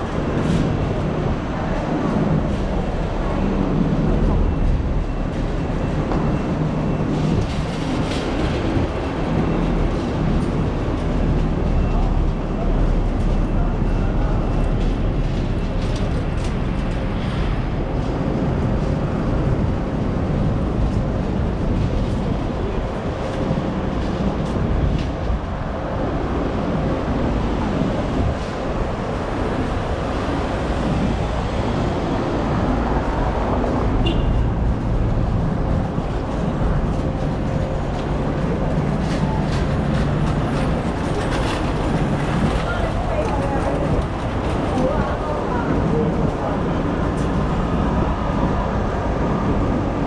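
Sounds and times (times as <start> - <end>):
low vehicle rumble: 0.0 - 50.0.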